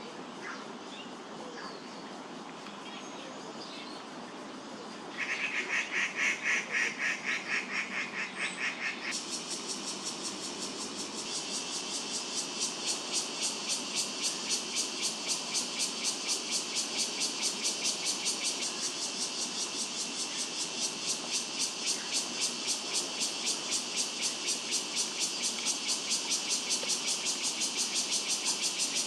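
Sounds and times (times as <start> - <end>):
cicadas chirring: 0.0 - 29.0.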